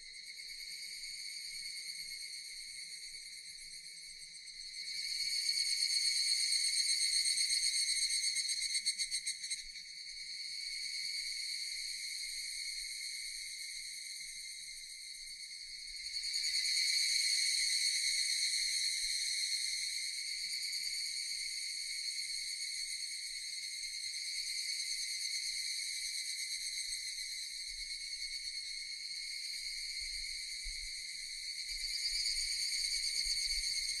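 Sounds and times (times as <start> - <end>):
cicadas singing in chorus: 0.0 - 34.0.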